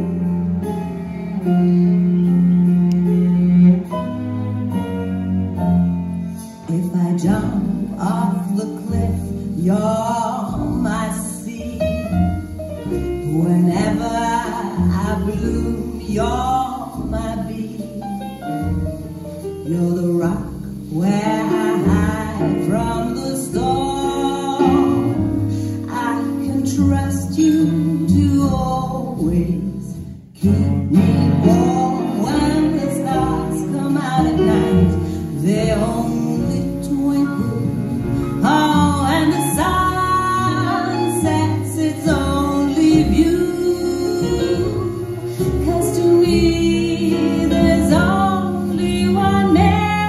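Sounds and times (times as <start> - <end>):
live jazz band: 0.0 - 50.0.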